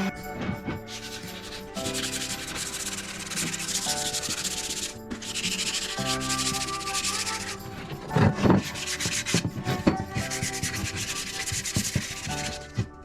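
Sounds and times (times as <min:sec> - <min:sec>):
background music: 0:00.0 - 0:13.0
power sander rasping on wood: 0:00.0 - 0:13.0.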